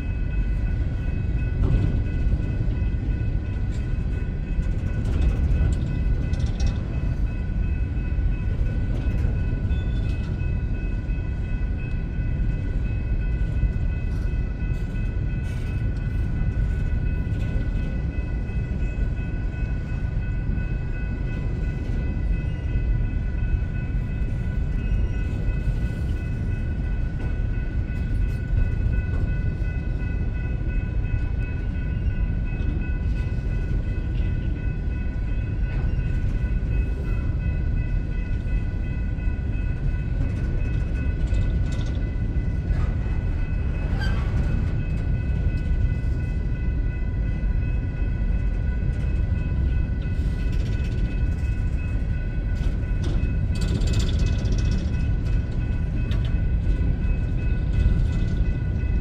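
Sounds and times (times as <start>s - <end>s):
train cars rolling on rails: 0.0s - 59.0s.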